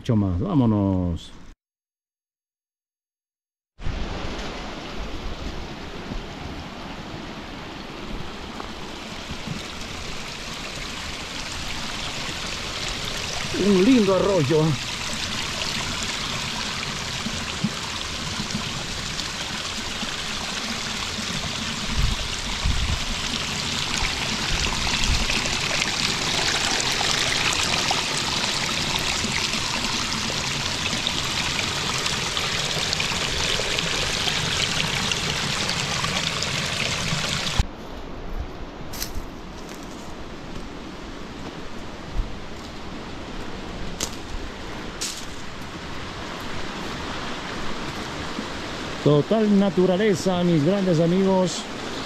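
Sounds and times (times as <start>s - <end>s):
stream flowing: 3.8s - 37.7s, 38.9s - 52.0s.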